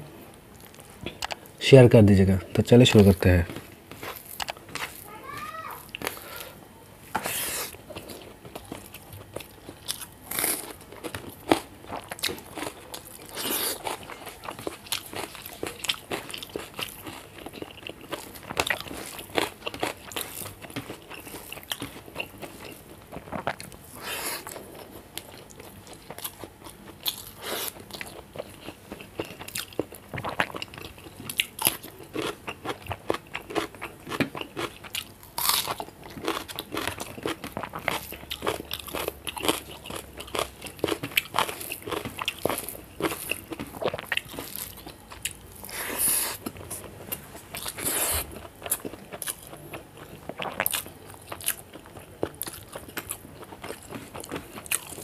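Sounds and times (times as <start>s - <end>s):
wet chewing and smacking: 7.2s - 55.0s.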